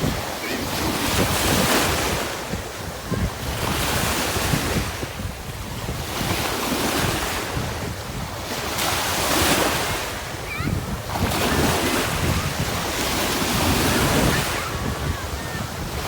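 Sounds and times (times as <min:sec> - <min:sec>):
ocean waves washing onto beach: 0:00.0 - 0:16.0
wind rumble on microphone: 0:00.0 - 0:16.0.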